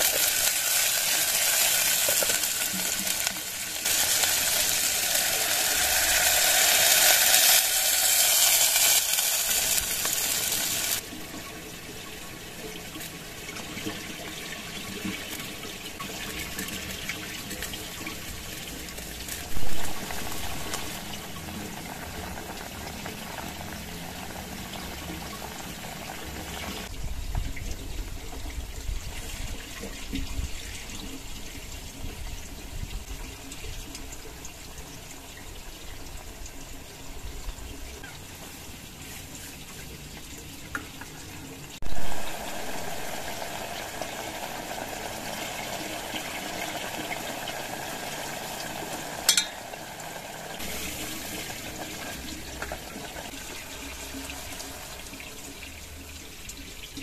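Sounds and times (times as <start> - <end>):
pot of water boiling: 0.0 - 57.0.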